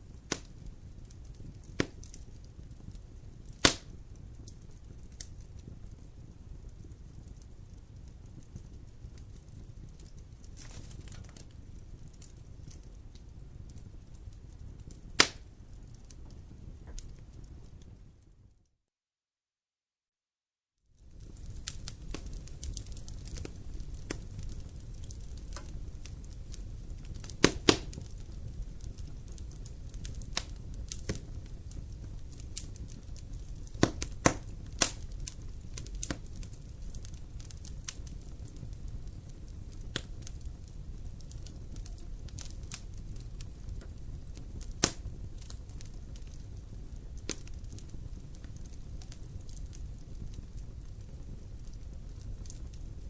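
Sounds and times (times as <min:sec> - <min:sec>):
low rumble of flames: 0:00.0 - 0:18.6, 0:20.8 - 0:53.0
wood fire crackling: 0:00.0 - 0:18.7, 0:20.9 - 0:53.0
sharp pops of fire: 0:00.1 - 0:18.1, 0:21.0 - 0:53.0.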